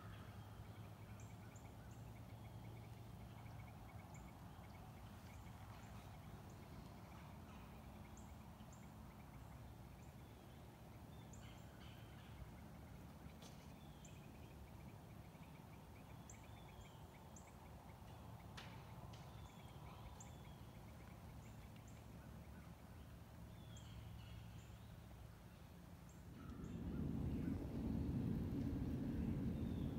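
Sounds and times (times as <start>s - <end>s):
faint low hum: 0.0s - 29.9s.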